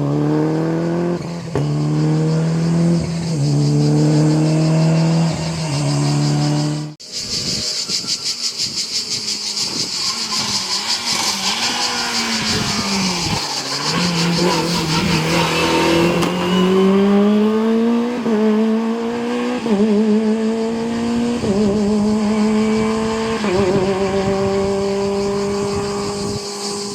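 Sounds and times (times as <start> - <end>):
racing car engine accelerating: 0.0 - 7.0, 8.7 - 26.9.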